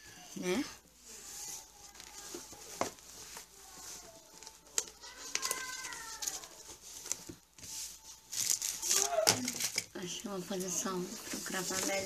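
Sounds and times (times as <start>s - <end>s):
notebook rustling: 0.8s - 12.0s.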